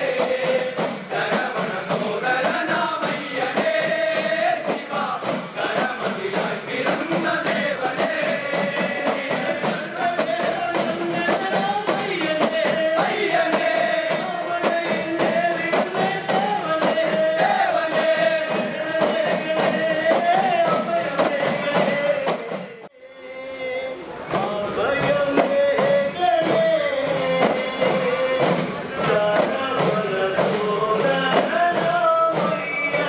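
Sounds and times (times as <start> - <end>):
hand drums beating: 0.0 - 22.9, 24.3 - 33.0
men singing together: 0.0 - 33.0.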